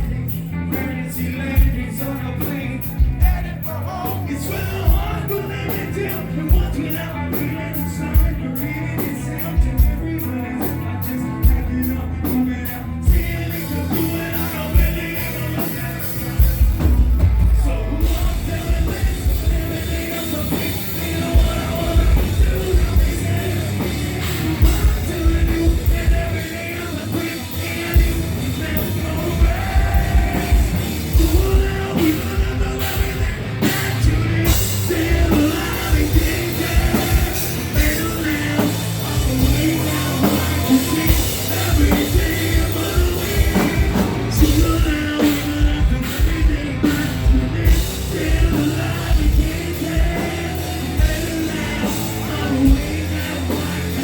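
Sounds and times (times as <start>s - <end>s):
live heavy rock band: 0.0s - 54.0s.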